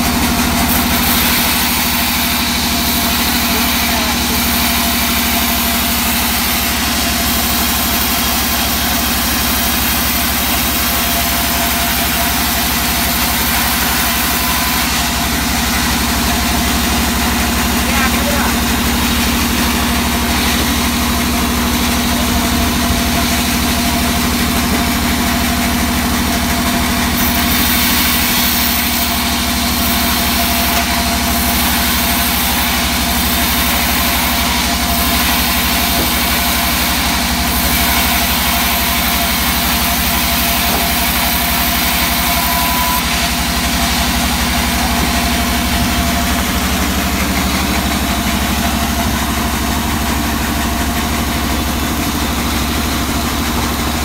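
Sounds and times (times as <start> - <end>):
band sawmill humming: 0.0 - 54.0
saw blade cutting wood: 0.0 - 54.0.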